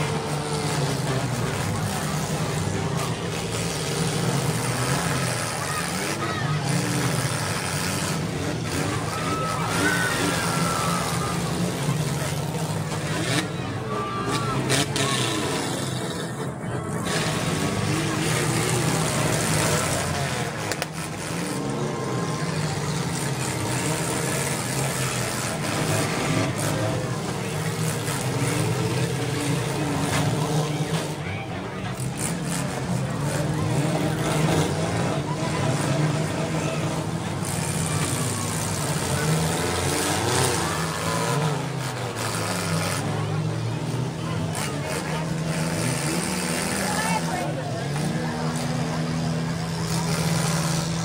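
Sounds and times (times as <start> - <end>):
car engines revving: 0.0 - 51.0
crowd chatter: 0.0 - 51.0.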